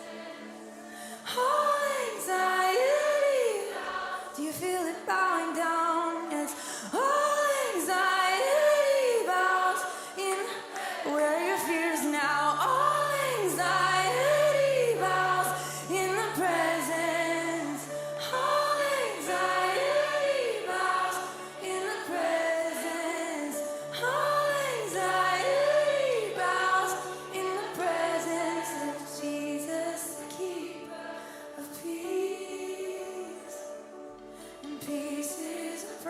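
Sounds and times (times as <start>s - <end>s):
backing voices singing: 0.0s - 33.8s, 34.7s - 36.0s
woman singing: 1.0s - 33.9s, 34.7s - 36.0s.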